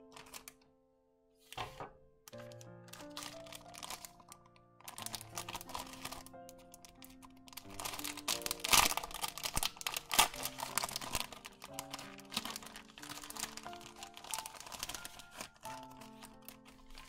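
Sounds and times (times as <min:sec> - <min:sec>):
cellophane packet crinkling: 0:00.0 - 0:00.6, 0:01.5 - 0:17.0
background music: 0:00.0 - 0:17.0.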